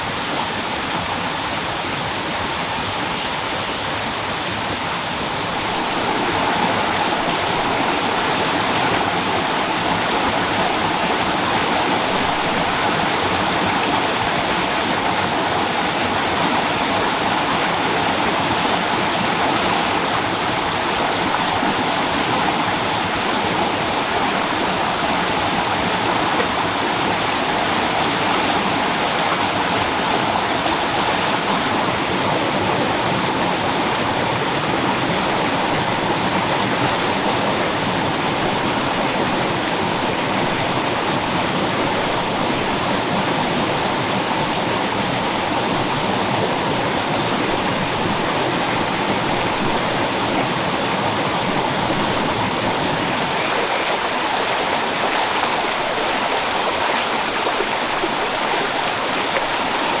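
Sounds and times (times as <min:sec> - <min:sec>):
stream rushing over stones: 0:00.0 - 1:00.0.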